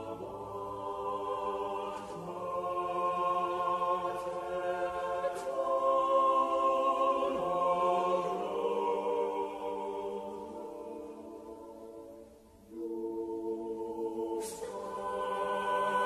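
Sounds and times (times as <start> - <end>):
choir singing sustained notes: 0.0 - 16.0.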